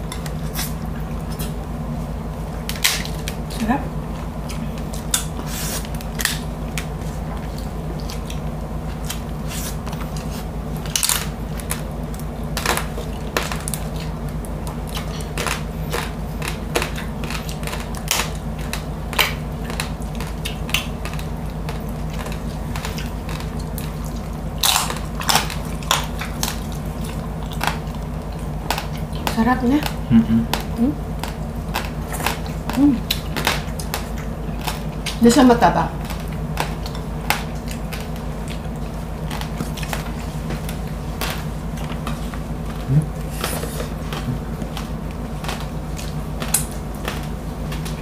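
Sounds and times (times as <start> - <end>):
crunching and chewing crispy skin: 0.0 - 48.0
steady low hum: 0.0 - 48.0.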